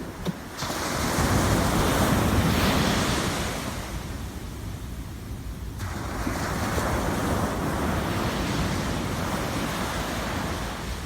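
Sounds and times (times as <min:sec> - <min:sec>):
sea waves washing ashore: 0:00.0 - 0:11.0.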